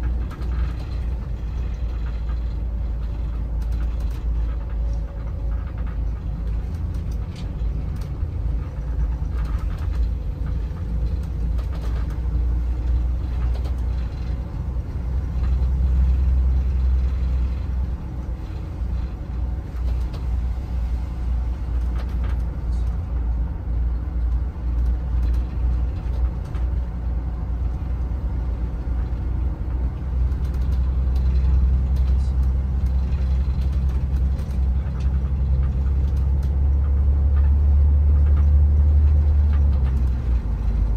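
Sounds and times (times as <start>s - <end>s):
bus engine rumble: 0.0s - 40.9s
light rattles: 0.0s - 40.9s.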